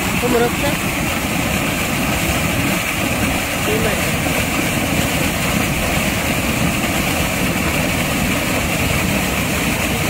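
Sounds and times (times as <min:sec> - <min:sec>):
sea waves breaking against rocks: 0:00.0 - 0:10.0.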